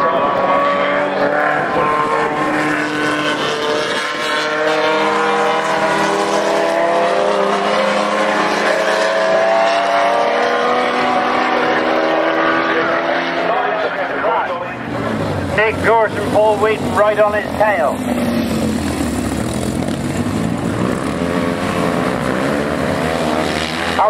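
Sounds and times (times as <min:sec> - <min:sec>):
racing car engines revving: 0:00.0 - 0:24.0.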